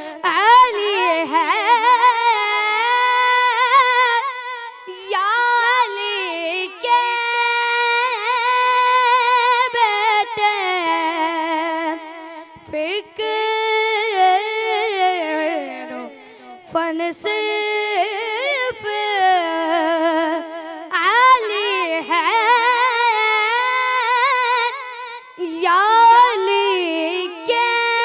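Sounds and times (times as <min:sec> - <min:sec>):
boy singing unaccompanied: 0:00.0 - 0:28.0.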